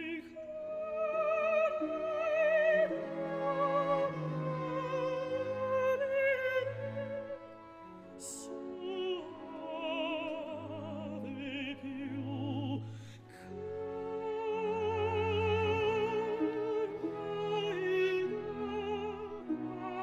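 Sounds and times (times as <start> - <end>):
operatic classical music: 0.0 - 20.0.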